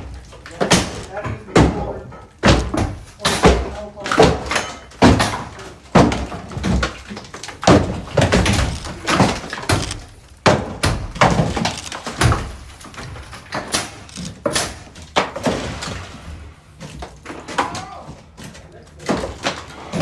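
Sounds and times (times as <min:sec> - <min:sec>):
demolition bangs and knocks: 0:00.0 - 0:18.4.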